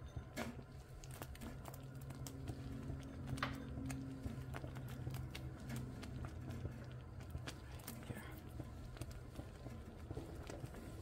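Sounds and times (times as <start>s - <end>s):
rice pudding clicks and plops: 0.0s - 11.0s
steady low hum: 0.0s - 11.0s.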